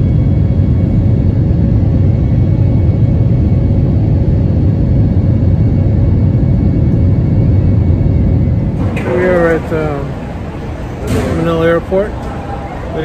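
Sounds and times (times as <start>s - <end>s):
faint steady hum: 0.0s - 13.0s
jet engine and airflow rumble: 0.0s - 13.0s.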